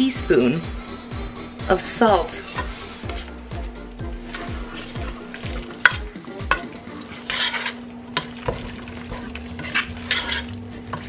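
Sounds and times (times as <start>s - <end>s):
squelching stirring in a pot: 0.5s - 11.0s.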